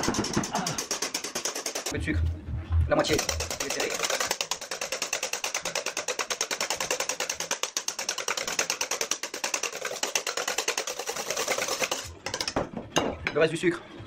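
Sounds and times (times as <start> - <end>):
whisk clattering in metal bowl: 0.0 - 1.9, 3.1 - 12.6.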